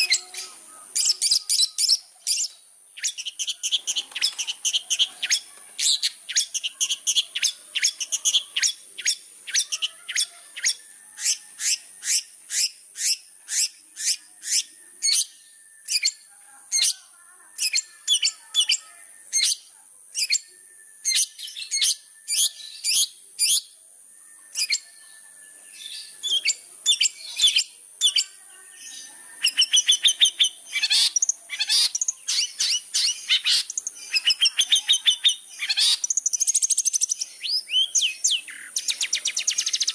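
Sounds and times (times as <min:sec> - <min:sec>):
bird sharp high chirps: 0:00.0 - 0:39.9.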